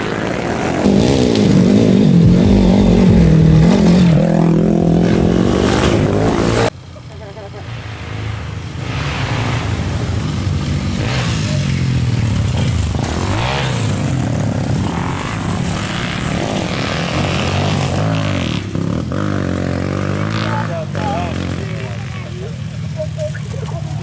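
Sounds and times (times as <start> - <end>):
motorcycles riding past revving: 0.0 - 24.0.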